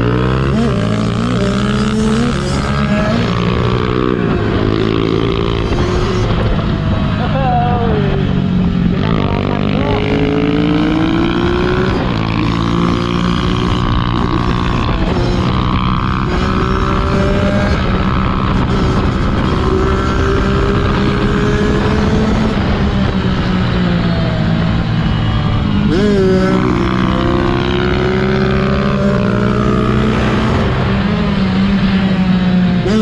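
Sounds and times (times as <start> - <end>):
dirt bike engines accelerating: 0.0 - 33.0.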